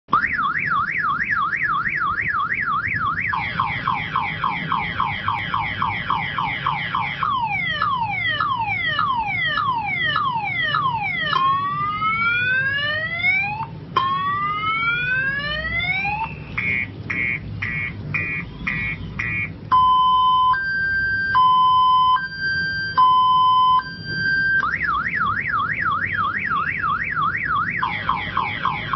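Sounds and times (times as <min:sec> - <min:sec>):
electronic siren warbling and wailing: 0:00.1 - 0:28.9
rapid pulsing beep: 0:00.2 - 0:10.9, 0:16.2 - 0:28.9.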